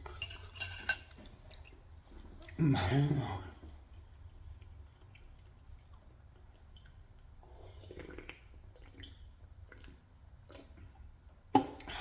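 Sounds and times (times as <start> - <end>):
soft wet eating clicks and chewing: 1.1 - 2.6, 3.5 - 11.9.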